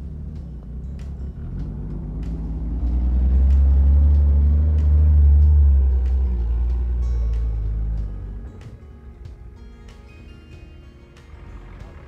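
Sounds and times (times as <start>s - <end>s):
engine running low and heavy: 0.0s - 12.0s.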